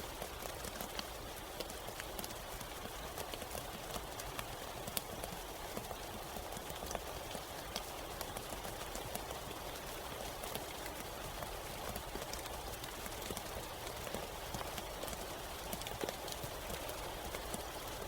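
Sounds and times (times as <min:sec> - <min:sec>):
rain hissing in forest: 0:00.0 - 0:18.0.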